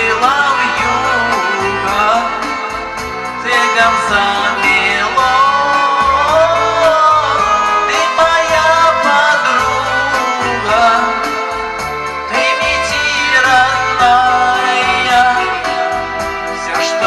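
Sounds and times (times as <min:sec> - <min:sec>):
instrumental backing track: 0:00.0 - 0:17.0.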